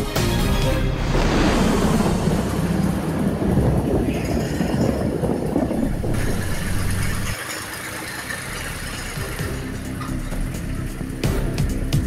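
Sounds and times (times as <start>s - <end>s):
tractor diesel engine running: 0.4s - 12.0s.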